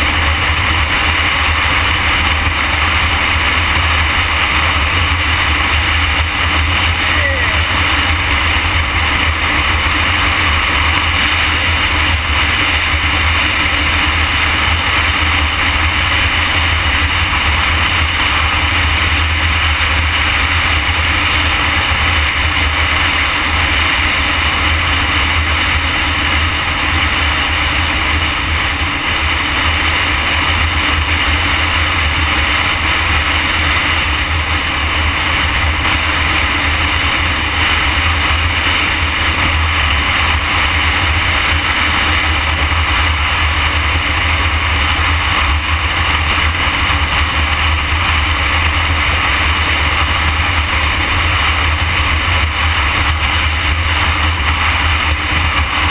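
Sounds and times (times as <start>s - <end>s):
motorcycle engine: 0.0s - 55.9s
road noise: 0.0s - 55.9s.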